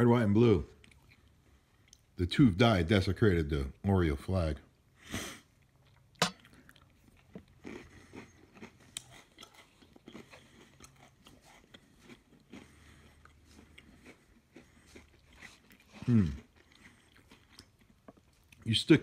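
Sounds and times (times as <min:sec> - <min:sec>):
man chewing crunchy cookies: 0:00.6 - 0:02.2, 0:04.8 - 0:19.0.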